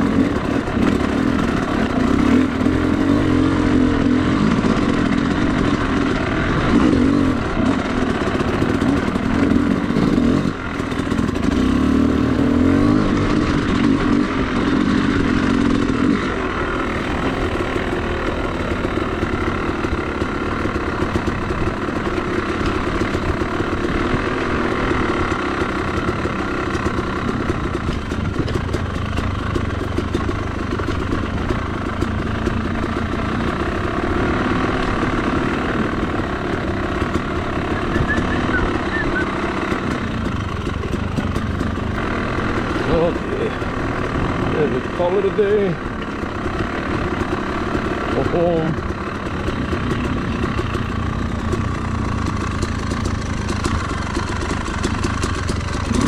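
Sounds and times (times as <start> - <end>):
two-stroke dirt bike engine: 0.0 - 56.0.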